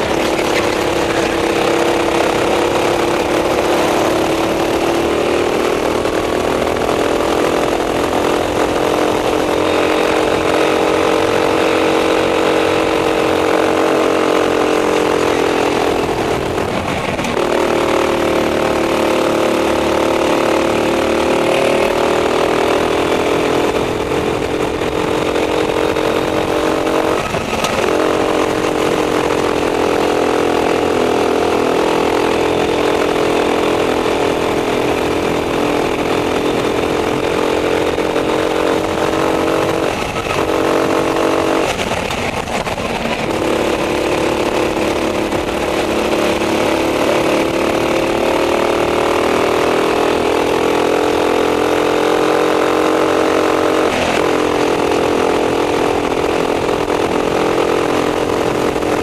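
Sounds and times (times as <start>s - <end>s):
racing kart engine at full throttle: 0.0s - 59.0s.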